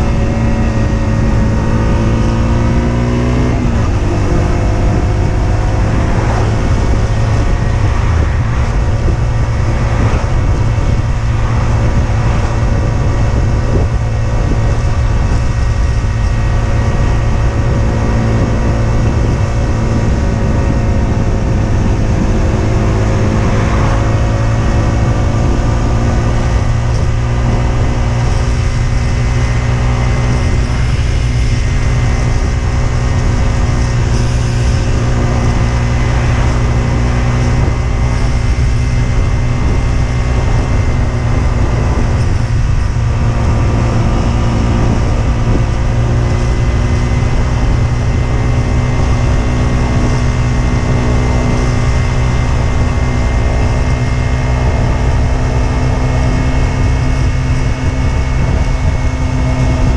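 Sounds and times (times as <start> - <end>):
heavy low rumble: 0.0 - 59.9
motorcycle engine running: 0.0 - 59.9.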